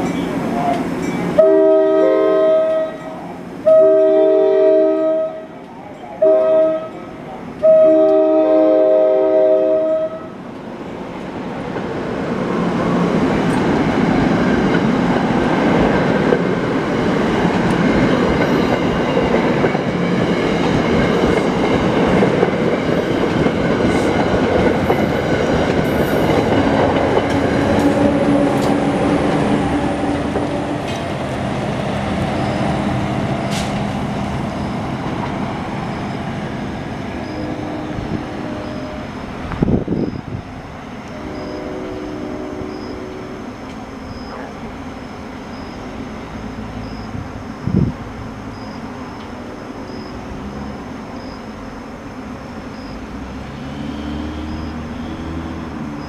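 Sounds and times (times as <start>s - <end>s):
train wheels rumbling on rail: 0.0s - 4.0s, 5.3s - 56.0s.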